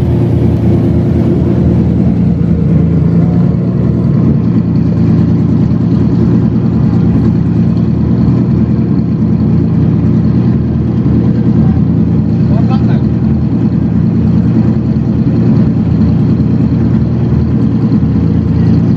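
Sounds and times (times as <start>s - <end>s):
car engine rumbling: 0.0s - 18.9s.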